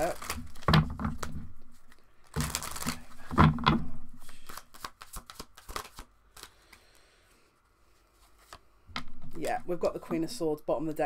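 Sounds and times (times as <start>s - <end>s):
cards being shuffled: 0.0s - 6.8s, 8.0s - 10.4s.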